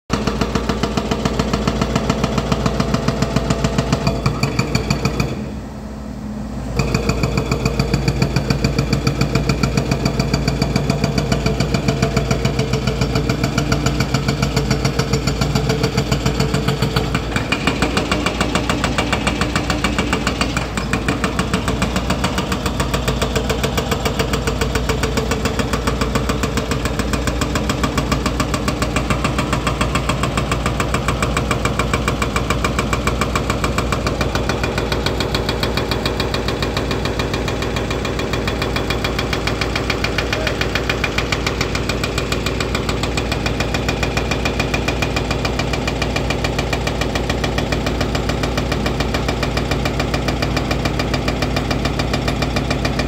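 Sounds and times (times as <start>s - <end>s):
hydraulic breaker hammering rock: 0.1s - 5.6s, 6.8s - 53.0s
diesel engine drone: 0.1s - 53.0s.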